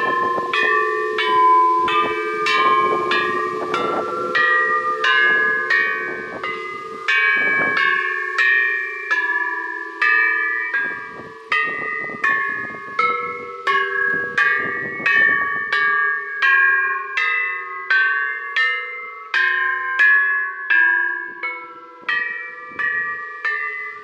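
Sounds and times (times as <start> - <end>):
temple bells struck: 0.0 - 24.0.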